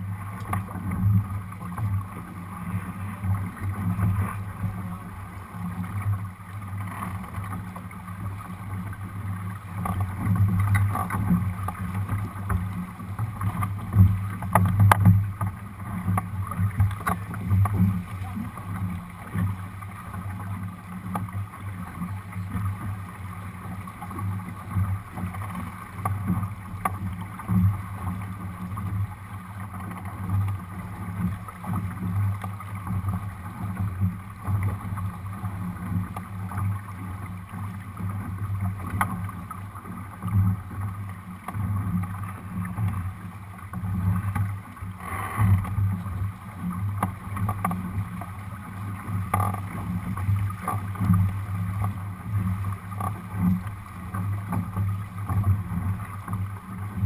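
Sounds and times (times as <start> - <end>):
water rushing along hull: 0.0 - 57.0.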